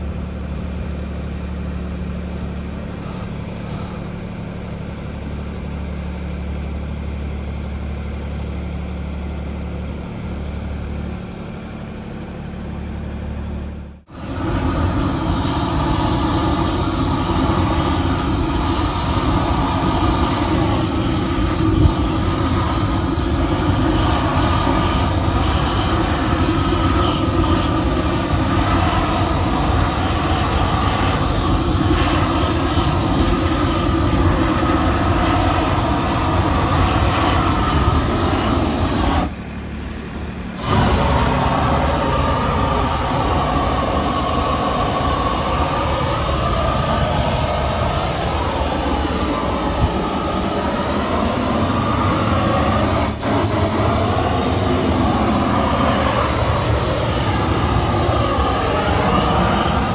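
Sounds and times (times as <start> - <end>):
machine running loudly: 0.0 - 59.9.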